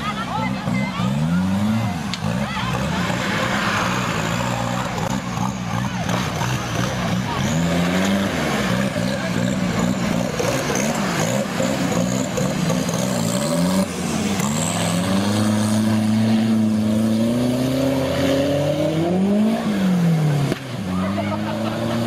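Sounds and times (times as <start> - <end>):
off-road engines revving: 0.0 - 22.0
water splashing from wheels: 0.0 - 22.0.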